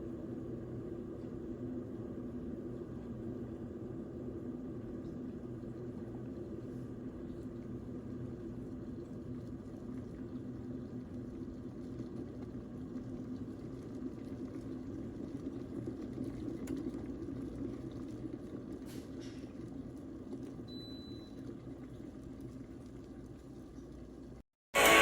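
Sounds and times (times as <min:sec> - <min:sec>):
electric kettle heating water: 0:00.0 - 0:24.4.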